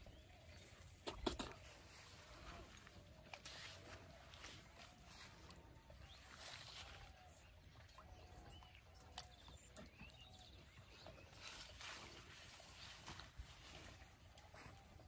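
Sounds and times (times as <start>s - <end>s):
soft bird chirps: 0.0s - 15.0s.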